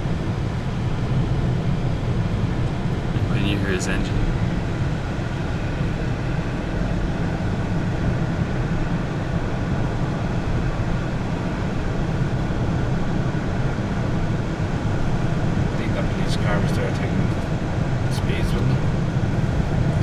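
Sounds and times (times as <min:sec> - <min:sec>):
vehicles rumbling on road: 0:00.0 - 0:20.0.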